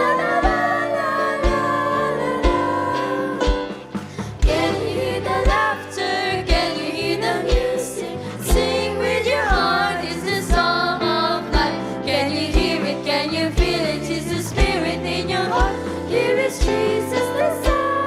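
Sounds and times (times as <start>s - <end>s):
children's choir singing: 0.0s - 3.8s, 4.4s - 18.0s
bass drum beating: 0.0s - 18.0s
instrumental accompaniment: 0.0s - 18.0s.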